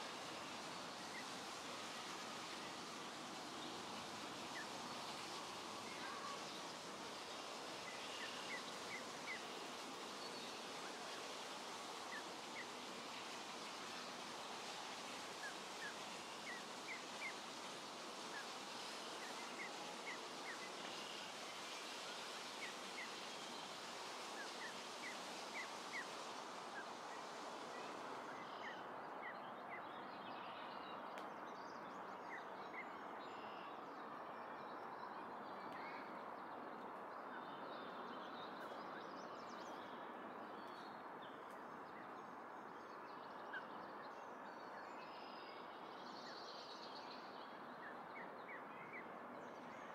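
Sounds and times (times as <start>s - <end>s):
steady background hiss: 0.0s - 49.9s.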